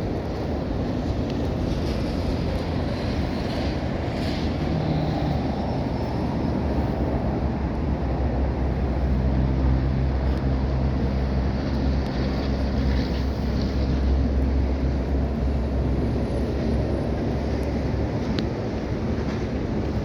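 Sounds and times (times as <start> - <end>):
car engine exhaust rumble: 0.0 - 20.0.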